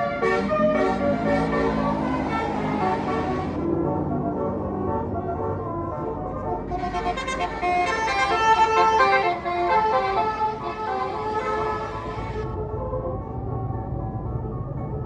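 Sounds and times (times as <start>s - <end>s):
musical bus horn playing a tune: 0.0s - 12.6s.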